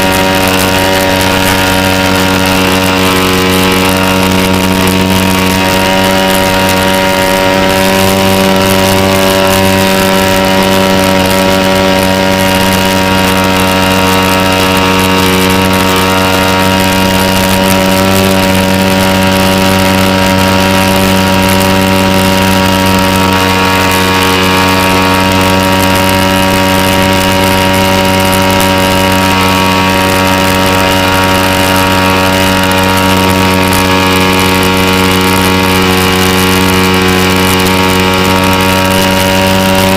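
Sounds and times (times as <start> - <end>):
model aircraft engine running: 0.0 - 39.9.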